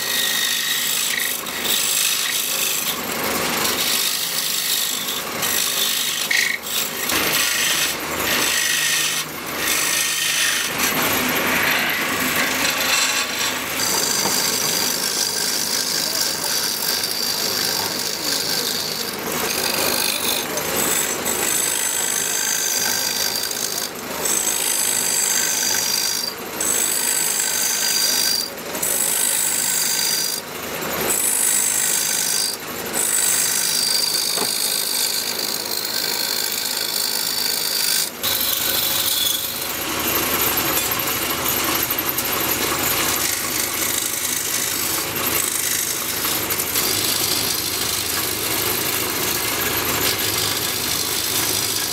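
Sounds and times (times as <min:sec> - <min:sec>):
lathe tool scraping wood: 0:00.0 - 0:51.9.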